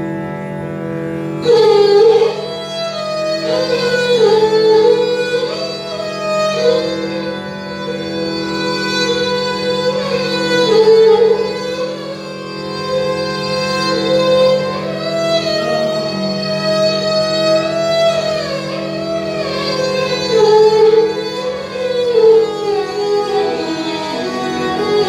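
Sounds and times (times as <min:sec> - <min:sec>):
bowed string melody: 0:00.0 - 0:25.0.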